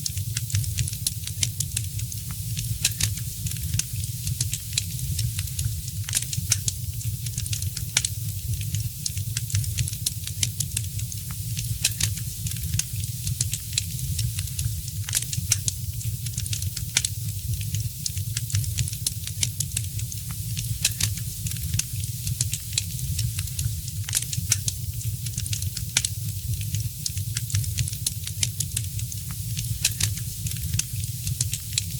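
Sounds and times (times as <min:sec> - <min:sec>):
wood fire crackling: 0:00.3 - 0:31.9.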